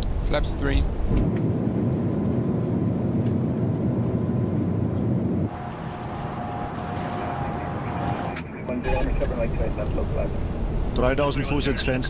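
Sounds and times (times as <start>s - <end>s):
airflow and engine noise: 0.0s - 12.0s.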